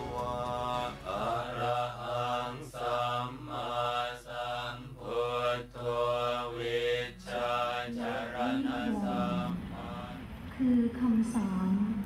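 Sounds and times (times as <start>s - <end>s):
monks chanting: 0.0s - 10.4s
steady low hum: 0.0s - 12.0s.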